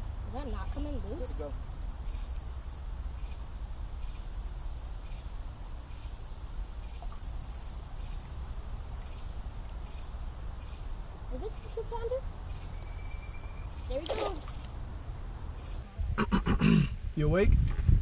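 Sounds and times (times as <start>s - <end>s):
pulsing insect chorus: 0.0s - 15.8s.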